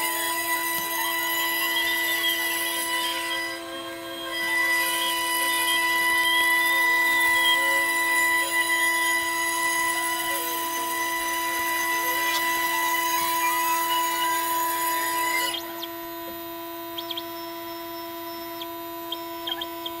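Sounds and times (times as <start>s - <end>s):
bit cutting wood hiss: 0.0s - 16.1s
router spindle whine: 0.0s - 20.0s.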